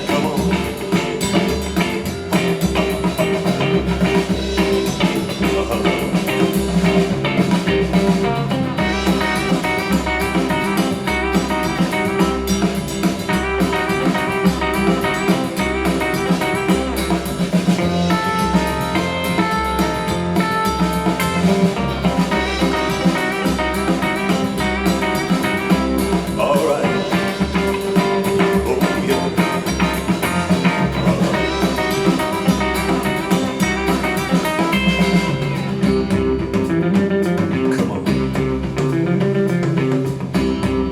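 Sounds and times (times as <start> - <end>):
drum beat: 0.0 - 40.9
guitar: 0.0 - 40.9.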